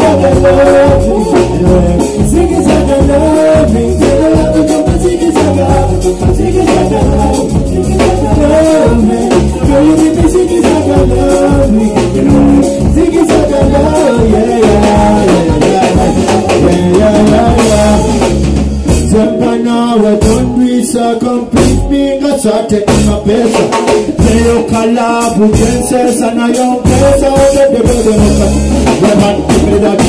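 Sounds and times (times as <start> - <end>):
bass guitar: 0.0 - 30.0
drum kit: 0.0 - 30.0
electric guitars: 0.0 - 30.0
keyboards: 0.0 - 30.0
man singing into a microphone: 0.0 - 30.0.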